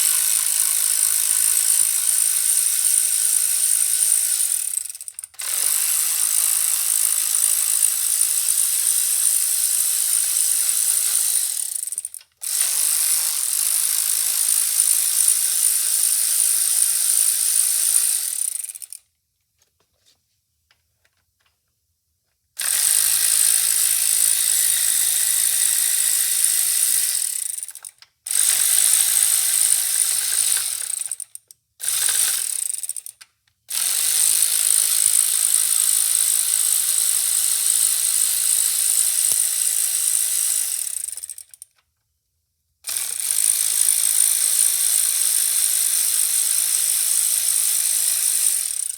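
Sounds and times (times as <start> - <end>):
cordless electric ratchet running: 0.0 - 19.0, 22.6 - 41.7, 42.9 - 48.9.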